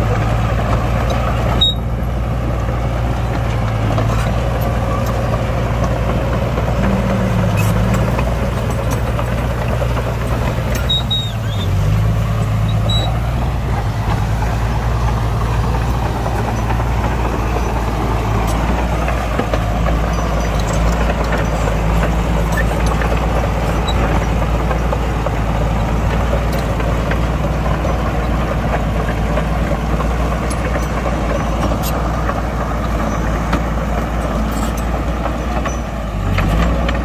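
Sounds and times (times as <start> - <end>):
diesel earthmoving machinery running: 0.0 - 37.0.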